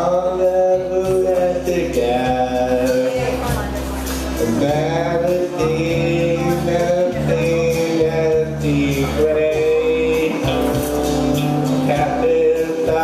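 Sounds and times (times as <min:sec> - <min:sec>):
instrumental accompaniment: 0:00.0 - 0:13.0
man singing into microphone: 0:00.0 - 0:13.0.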